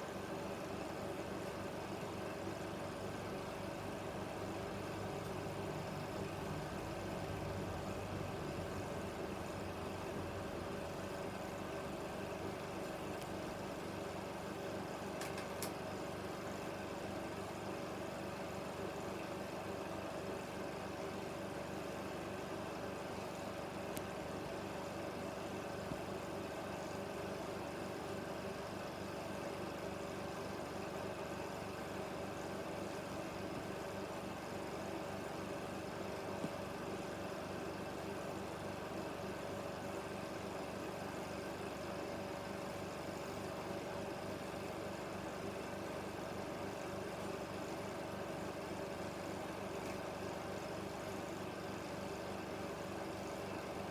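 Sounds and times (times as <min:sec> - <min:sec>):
film projector whirring: 0:00.0 - 0:53.9.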